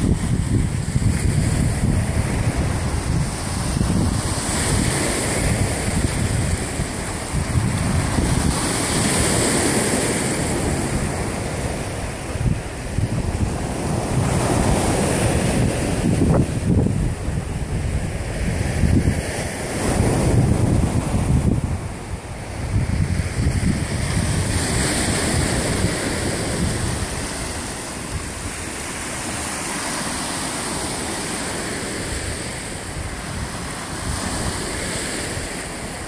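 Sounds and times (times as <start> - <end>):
lake waves washing on shore: 0.0 - 36.0
wind buffeting microphone: 0.0 - 36.0.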